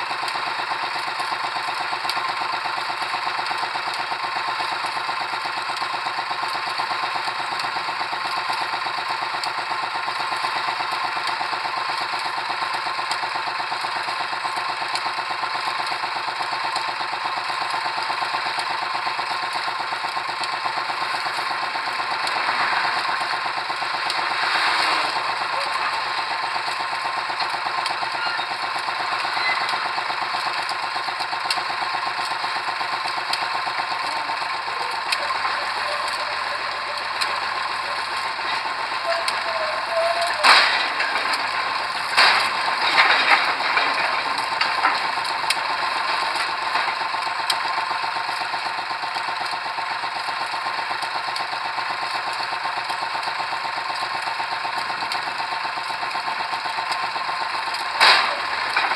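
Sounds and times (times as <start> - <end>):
pile-driving machinery rattling: 0.0 - 58.9.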